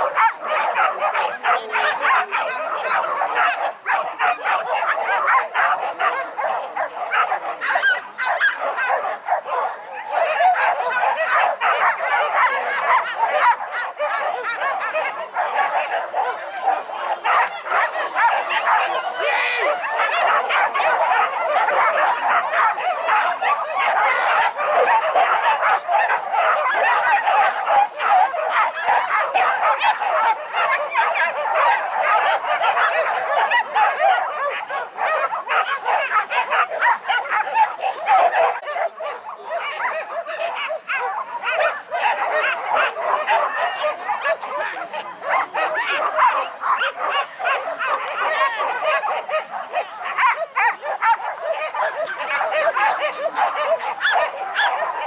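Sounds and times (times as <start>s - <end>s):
dogs barking and yelping: 0.0s - 55.0s.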